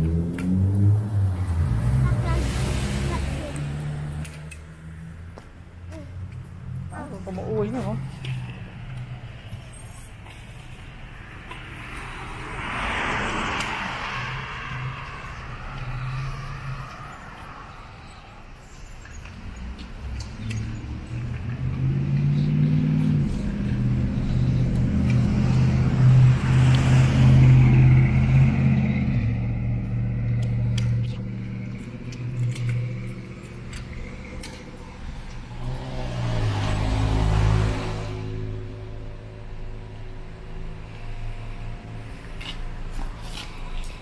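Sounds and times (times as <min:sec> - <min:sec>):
engine humming: 0:00.0 - 0:44.0.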